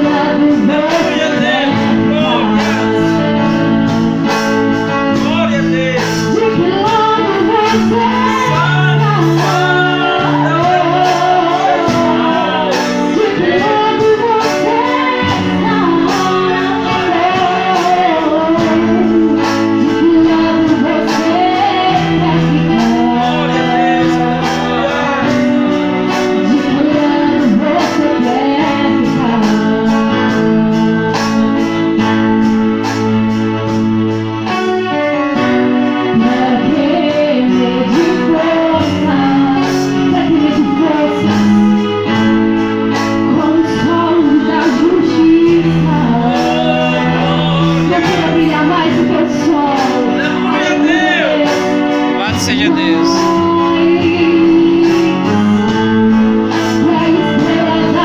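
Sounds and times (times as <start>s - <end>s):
woman singing into microphone: 0.0s - 5.2s, 6.1s - 33.3s, 34.3s - 58.0s
keyboard accompaniment with beat: 0.0s - 58.0s.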